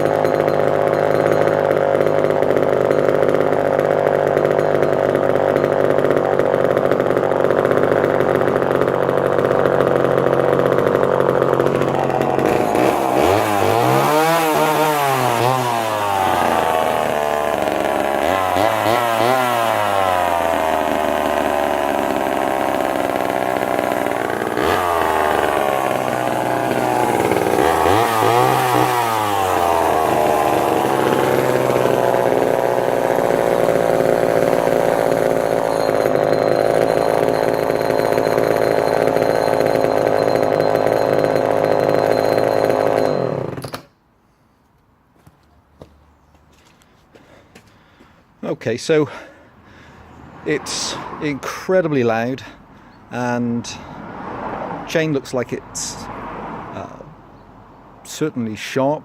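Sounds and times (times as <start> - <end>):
chainsaw engine idling and revving: 0.0 - 43.9, 46.7 - 57.2, 58.0 - 59.0.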